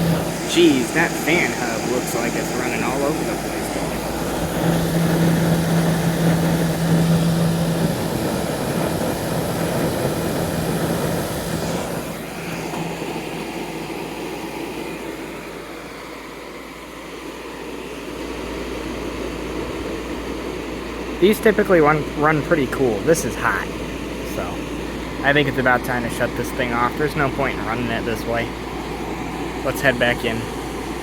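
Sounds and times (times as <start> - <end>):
condenser fan air rushing: 0.0 - 31.0
low hum: 0.0 - 31.0.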